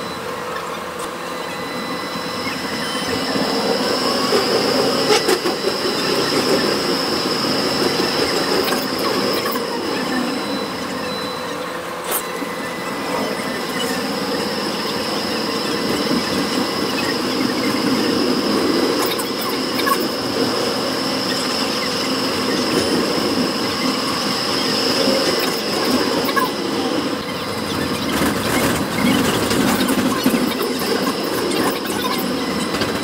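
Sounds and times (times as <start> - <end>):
thin high whine: 0.0 - 28.3
tram motor tone: 0.0 - 33.0
tram wheels rumbling on rails: 1.8 - 33.0.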